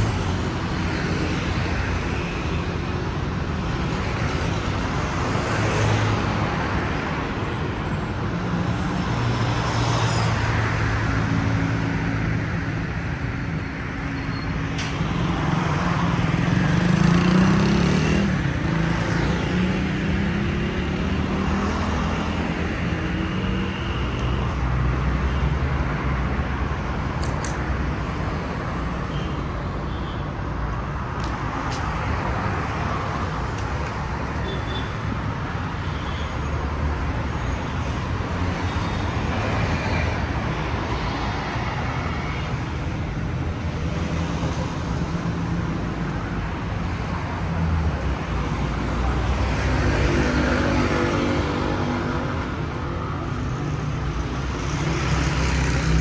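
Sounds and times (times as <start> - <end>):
road traffic: 0.0 - 56.0.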